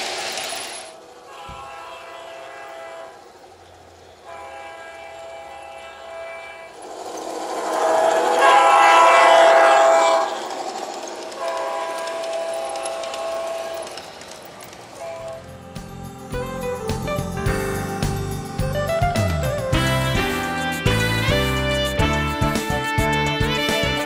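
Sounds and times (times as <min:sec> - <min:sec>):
rush of train passing: 0:00.0 - 0:24.0
diesel locomotive horn blasts: 0:01.0 - 0:03.4, 0:04.2 - 0:14.0, 0:15.0 - 0:18.1, 0:19.1 - 0:24.0.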